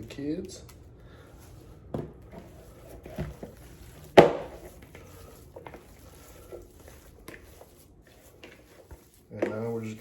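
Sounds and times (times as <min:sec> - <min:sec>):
hands mixing ground beef: 0:00.0 - 0:10.0.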